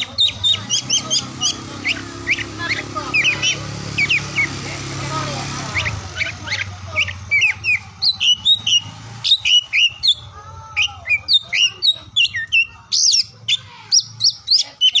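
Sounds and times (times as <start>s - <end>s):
bird singing whistled notes: 0.0s - 4.7s, 5.7s - 15.0s.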